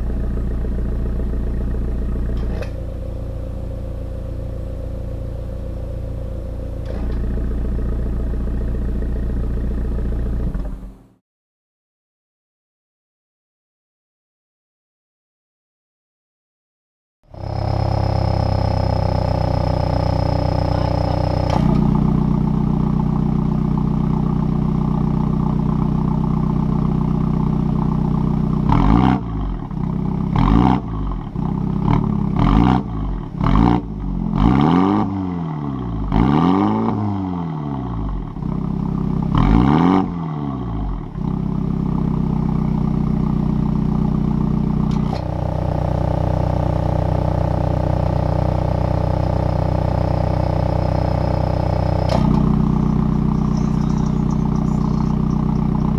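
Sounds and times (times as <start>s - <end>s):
car engine idling and revving: 0.0s - 11.2s, 17.3s - 55.9s.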